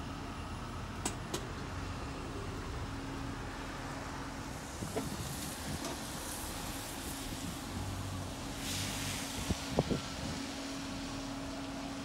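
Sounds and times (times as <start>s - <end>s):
car engine humming at low speed: 0.0s - 12.0s.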